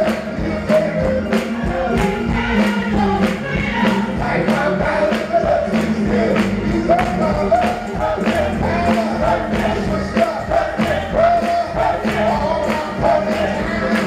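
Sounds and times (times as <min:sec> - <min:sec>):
gospel choir singing: 0:00.0 - 0:14.0
sharp percussive beat: 0:00.0 - 0:14.0.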